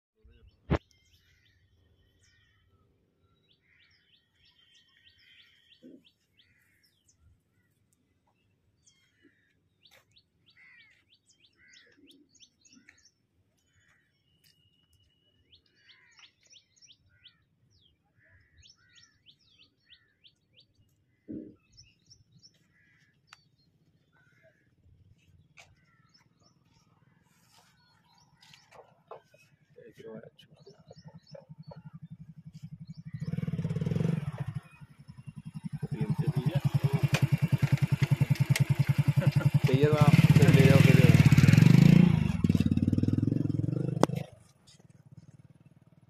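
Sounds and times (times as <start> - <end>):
small birds chirping and trilling: 0.2 - 45.7.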